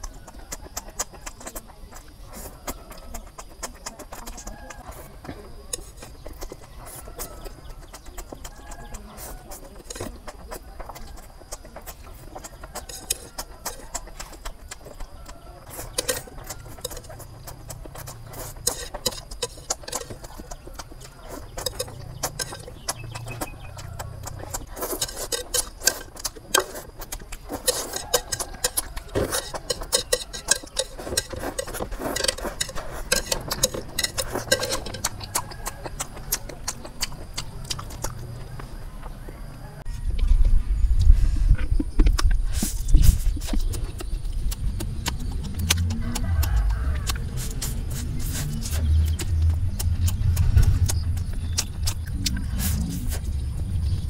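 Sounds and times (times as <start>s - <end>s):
mouth smacking while chewing: 0.0s - 54.0s.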